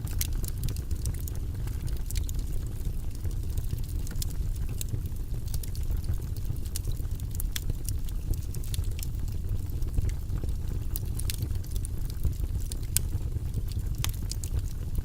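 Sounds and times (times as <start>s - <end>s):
wood fire burning in a fireplace: 0.0s - 15.0s.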